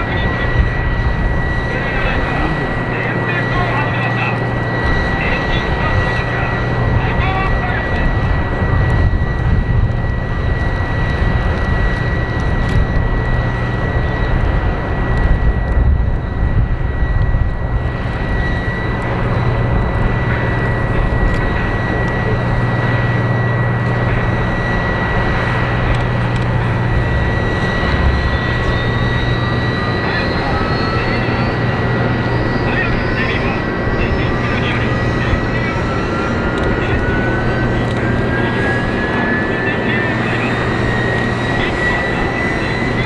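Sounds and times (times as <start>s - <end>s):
jet engines high whine: 0.0s - 43.0s.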